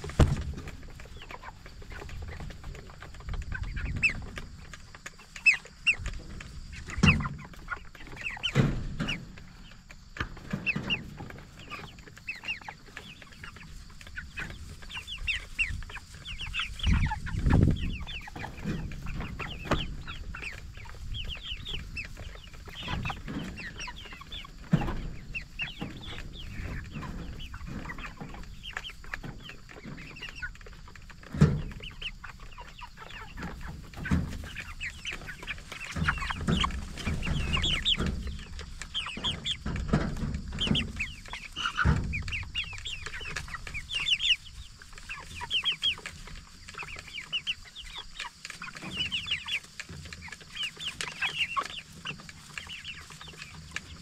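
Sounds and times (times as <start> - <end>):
chickens clucking and cheeping: 0.0 - 54.0.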